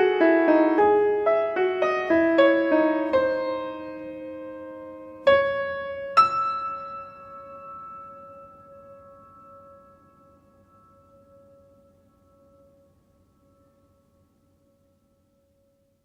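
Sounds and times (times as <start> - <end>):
soft solo piano music: 0.0 - 12.9.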